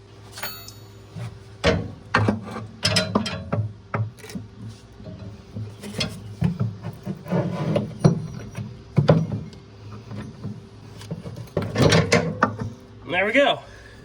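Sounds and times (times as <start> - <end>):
metal clunks and scraping: 0.3 - 12.9.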